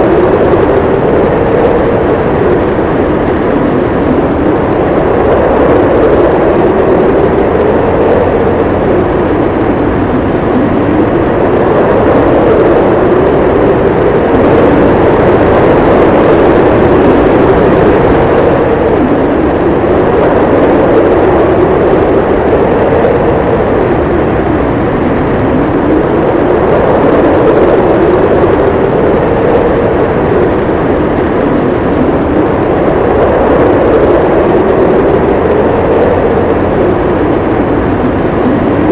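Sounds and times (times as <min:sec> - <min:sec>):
howling wind: 0:00.0 - 0:38.9.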